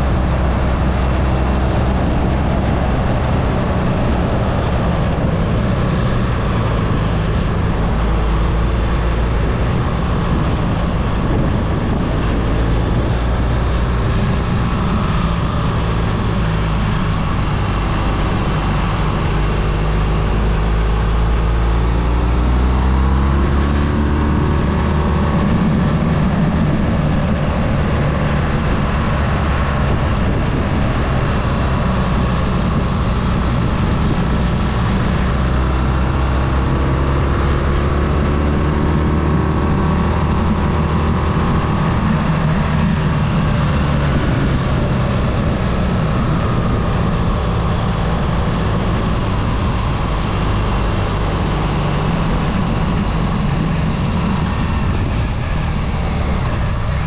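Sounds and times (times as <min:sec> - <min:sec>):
loud low rumble: 0:00.0 - 0:57.0
vehicle engine driving uphill: 0:00.0 - 0:57.0.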